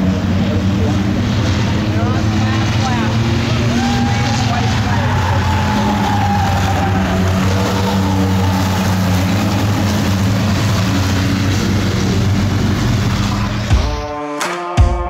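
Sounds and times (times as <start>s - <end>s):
race car engines: 0.0s - 14.5s.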